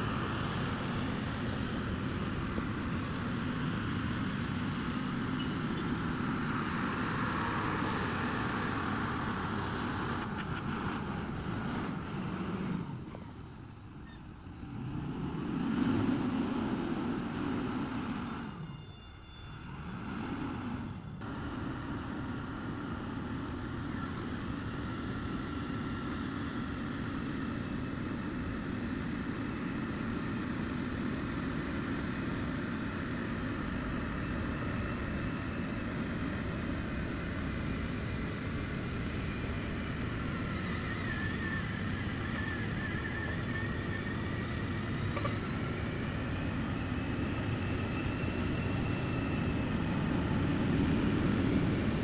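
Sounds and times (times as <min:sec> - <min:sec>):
diesel machinery rumbling: 0:00.0 - 0:52.0.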